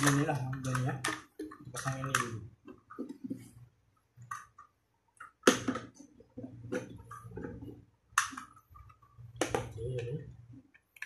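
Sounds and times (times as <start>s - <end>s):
plastic fittings clicking and knocking: 0.0s - 3.6s, 4.2s - 11.0s.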